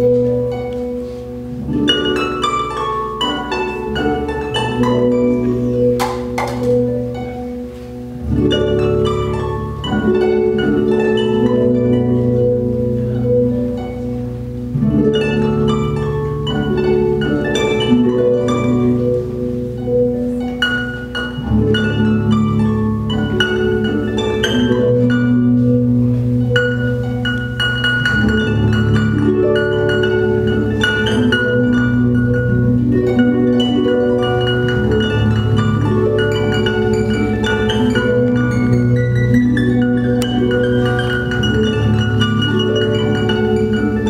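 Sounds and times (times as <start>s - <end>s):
harp plucked: 0.0s - 44.0s.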